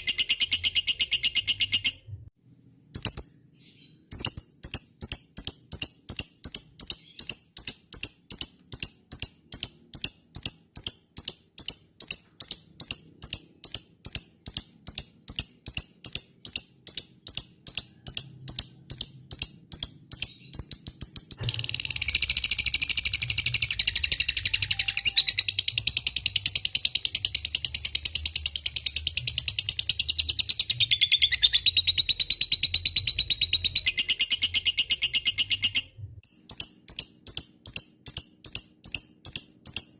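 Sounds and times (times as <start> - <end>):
lovebird chirping and chattering: 0.0 - 2.1, 2.9 - 39.9.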